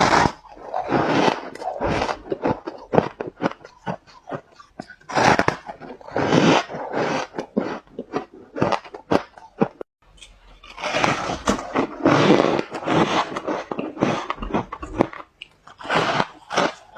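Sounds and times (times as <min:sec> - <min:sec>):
ice being chewed: 0:00.0 - 0:16.9.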